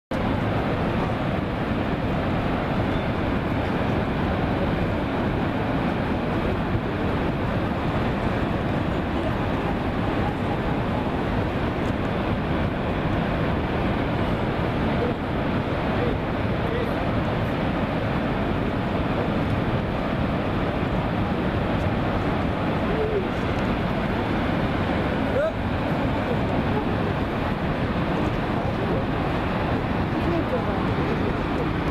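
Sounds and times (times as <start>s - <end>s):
volcanic crater deep rumbling: 0.1s - 31.9s.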